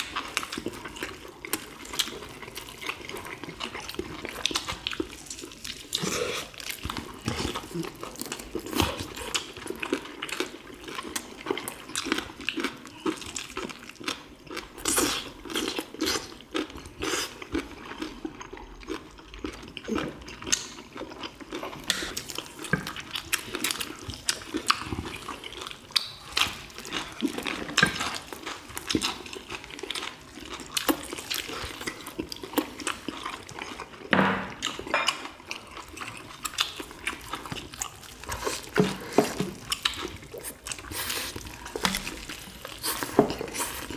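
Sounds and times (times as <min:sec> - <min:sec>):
people chewing and lip-smacking: 0:00.0 - 0:43.9.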